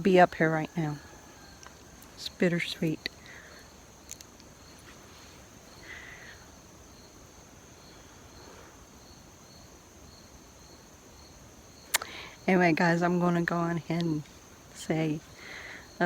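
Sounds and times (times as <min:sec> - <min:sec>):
insect high trill: 0:00.0 - 0:16.0
insects chirping: 0:00.0 - 0:16.0.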